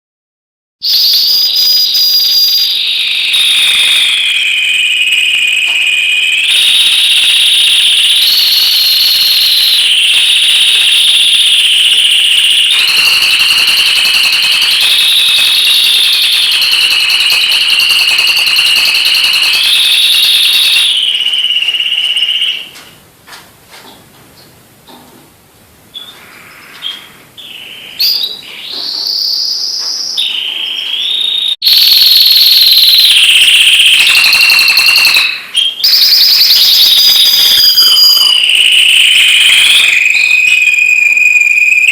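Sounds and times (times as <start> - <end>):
canary singing rapid trills: 0.8 - 22.7, 26.3 - 41.9.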